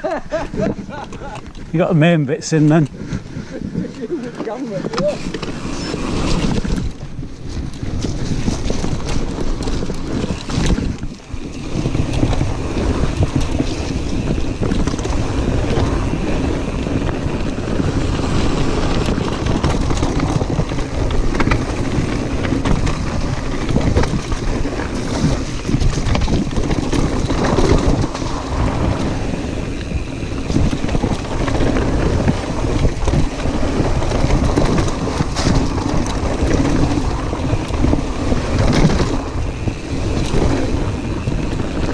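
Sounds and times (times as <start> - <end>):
bike rattling over bumps: 0.0 - 41.9
tyres rumbling on dirt: 0.0 - 41.9
wind buffeting microphone: 0.0 - 41.9.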